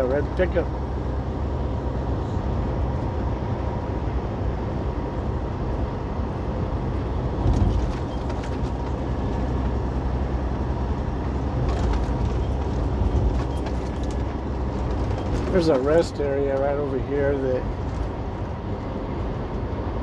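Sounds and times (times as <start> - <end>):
truck engine and road drone: 0.0 - 20.0.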